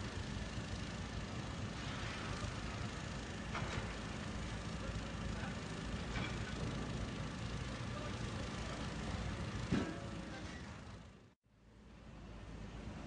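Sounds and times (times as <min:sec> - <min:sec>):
construction machinery engines: 0:00.0 - 0:13.0.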